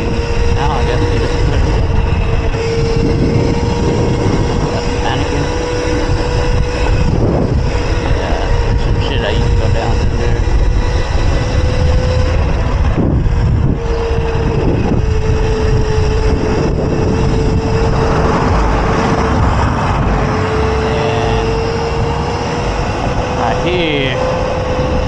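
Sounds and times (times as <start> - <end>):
electric motor whine: 0.0 - 25.0
wind rumble on microphone: 0.0 - 25.0.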